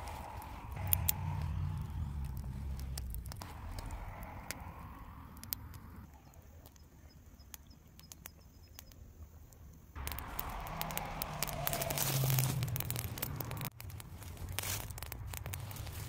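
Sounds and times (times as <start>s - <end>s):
twig fire crackling and popping: 0.0s - 16.0s.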